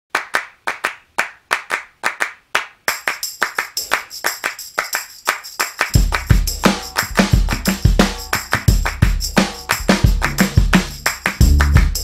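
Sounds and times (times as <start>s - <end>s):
rhythmic hand claps: 0.1s - 12.0s.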